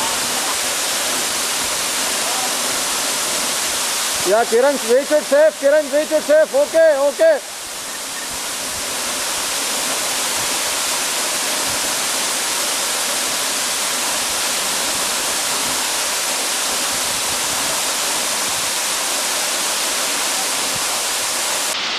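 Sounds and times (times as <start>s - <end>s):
waterfall crashing: 0.0s - 21.9s.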